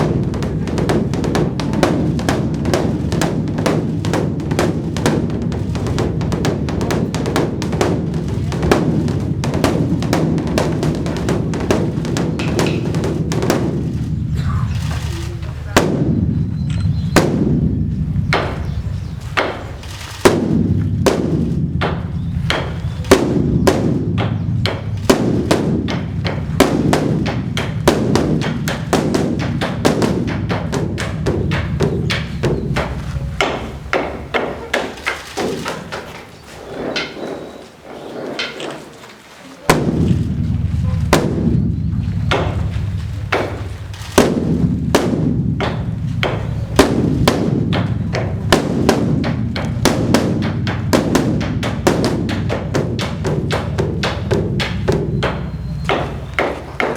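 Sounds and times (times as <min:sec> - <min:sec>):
large drum beaten in rolls: 0:00.0 - 0:37.5, 0:39.6 - 0:56.9.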